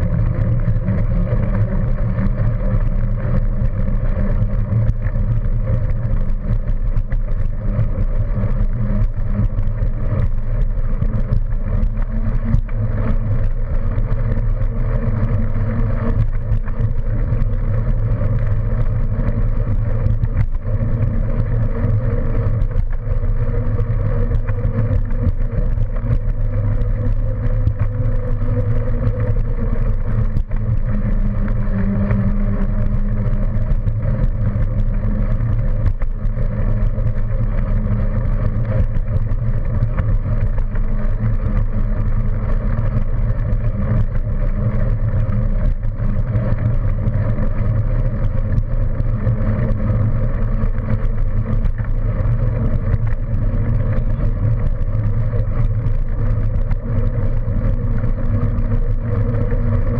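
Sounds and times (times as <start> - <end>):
faint steady hum: 0.0 - 59.9
wheel noise on pavement: 0.0 - 59.9.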